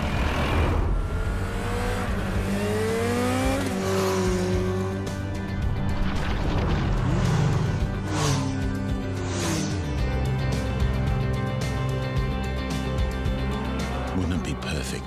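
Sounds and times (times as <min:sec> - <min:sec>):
motorcycle engine accelerating: 0:00.0 - 0:14.2
background music: 0:00.0 - 0:15.0.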